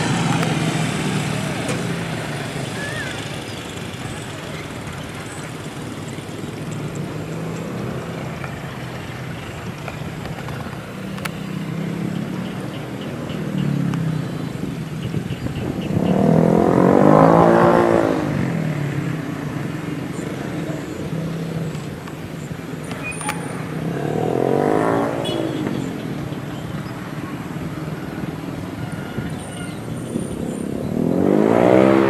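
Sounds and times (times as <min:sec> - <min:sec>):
vehicle passing close by: 0:00.0 - 0:21.8, 0:22.7 - 0:32.0.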